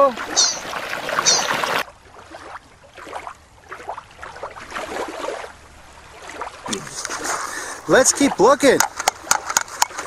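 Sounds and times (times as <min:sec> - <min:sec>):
rushing creek water: 0:00.0 - 0:10.0.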